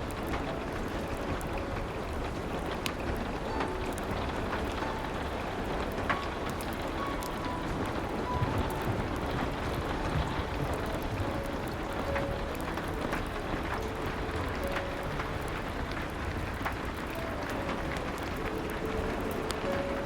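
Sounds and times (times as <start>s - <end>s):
soft piano notes: 0.0s - 20.0s
steady rain: 0.0s - 20.0s
wood fire crackling: 0.0s - 20.0s.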